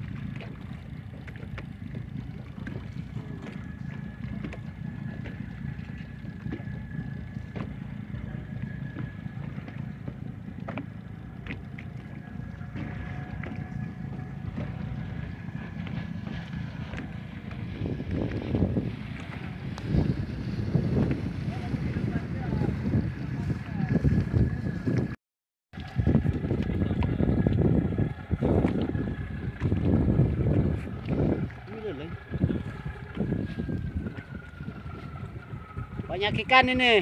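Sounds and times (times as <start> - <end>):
boat engine rumbling: 0.0 - 37.0.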